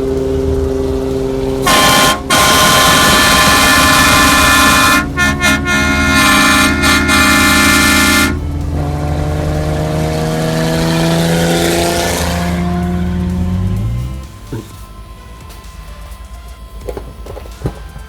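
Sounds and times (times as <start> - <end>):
air horn chord blasting: 0.0 - 18.0
vehicle engine running: 0.0 - 18.0.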